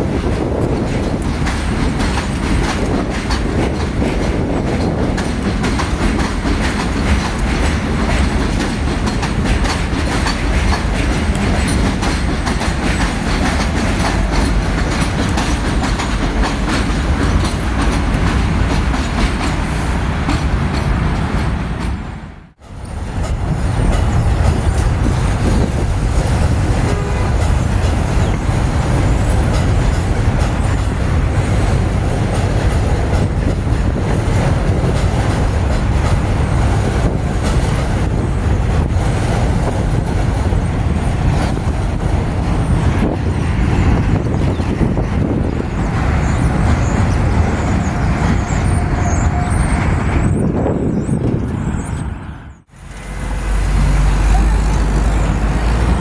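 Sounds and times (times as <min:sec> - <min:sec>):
street traffic: 0:00.0 - 0:56.0
subway train rumbling: 0:00.0 - 0:56.0.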